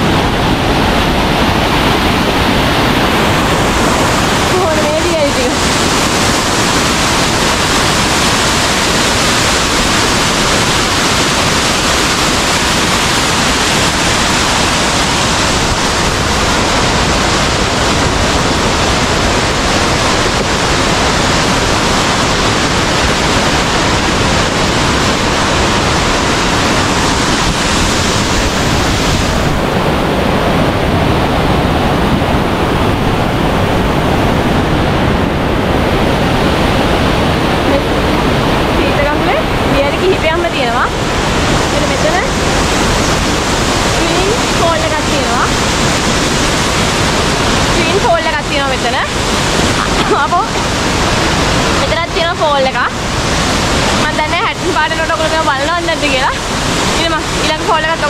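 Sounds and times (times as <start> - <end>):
stream and waterfall roaring: 0.0 - 58.0.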